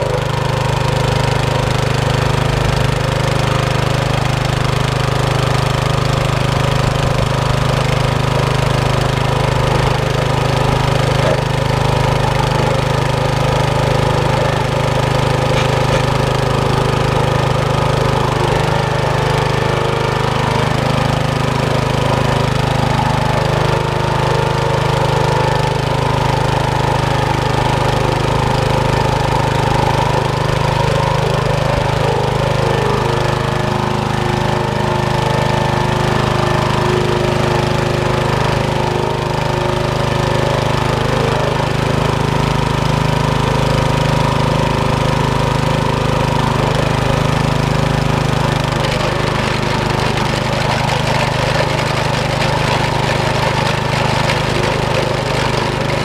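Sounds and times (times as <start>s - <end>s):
mower cutting grass: 0.0s - 56.0s
small petrol engine running: 0.0s - 56.0s.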